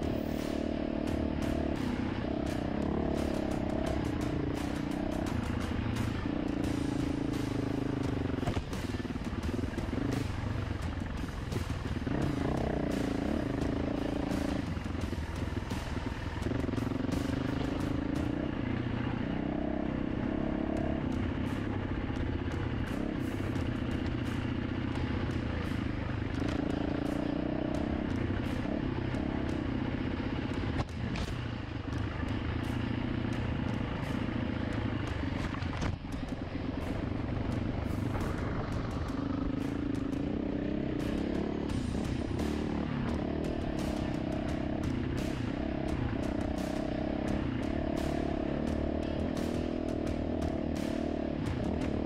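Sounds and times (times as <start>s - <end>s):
dirt bike engine running hard: 0.0s - 52.0s.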